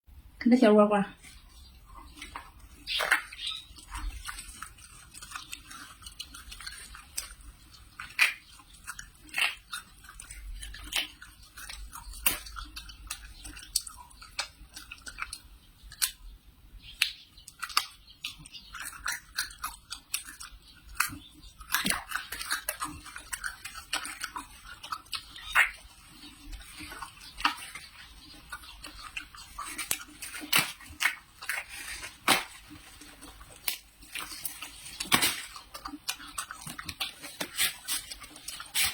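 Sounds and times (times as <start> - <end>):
person chewing pear crunchily: 1.2 - 38.9.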